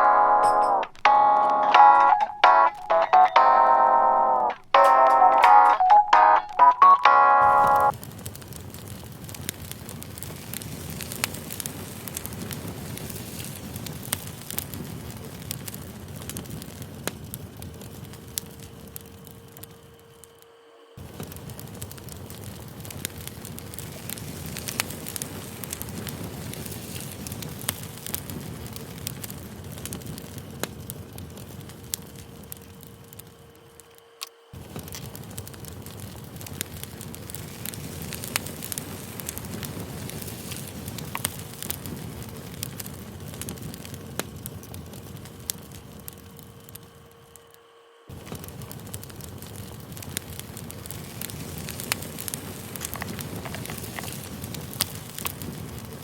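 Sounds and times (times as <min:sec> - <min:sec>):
campfire crackling and popping: 0:00.0 - 0:20.4, 0:21.0 - 0:56.0.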